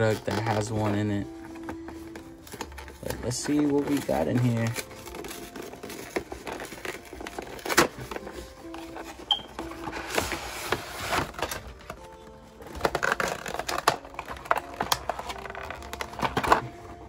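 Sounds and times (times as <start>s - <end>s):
packaging crinkling and scraping: 0.0s - 17.0s
soft background music: 0.0s - 17.0s.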